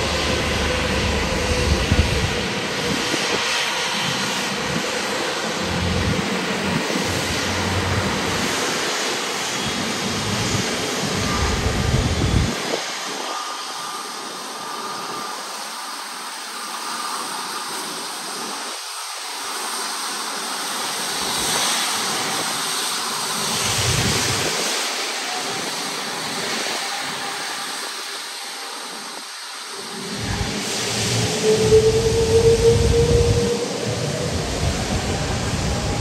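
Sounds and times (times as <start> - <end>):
jet engine rushing: 0.0 - 36.0.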